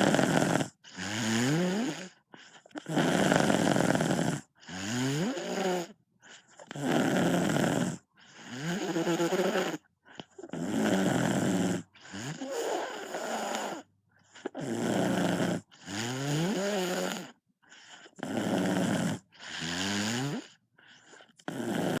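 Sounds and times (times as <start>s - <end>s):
loud snoring: 0.0s - 6.0s, 6.6s - 22.0s.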